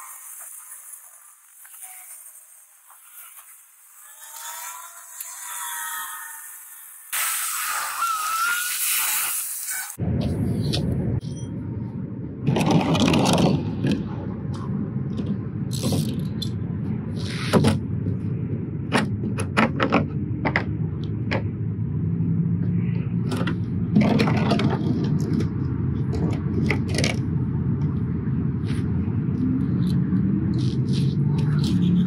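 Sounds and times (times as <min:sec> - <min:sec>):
highway traffic rumble: 0:00.0 - 0:32.0.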